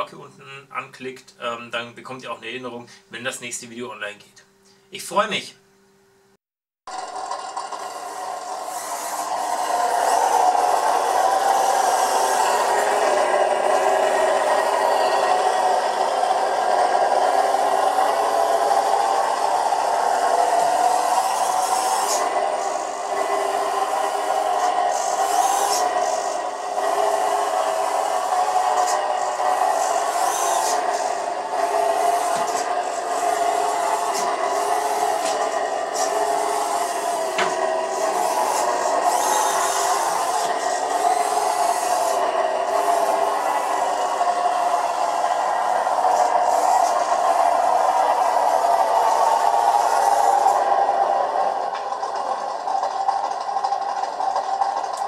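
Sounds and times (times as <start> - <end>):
electronic engine sound from speaker: 6.9 - 51.0
electric drivetrain whir: 6.9 - 55.0.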